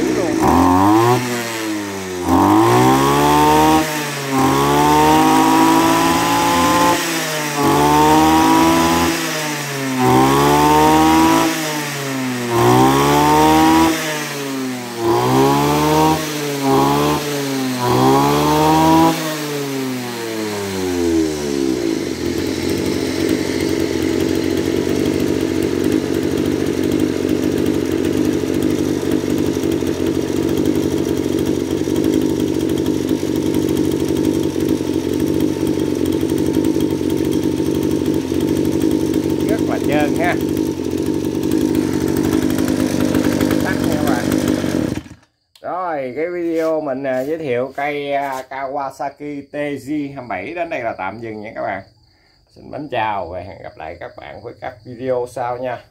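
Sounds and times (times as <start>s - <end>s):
brush cutter engine revving: 0.0s - 45.4s.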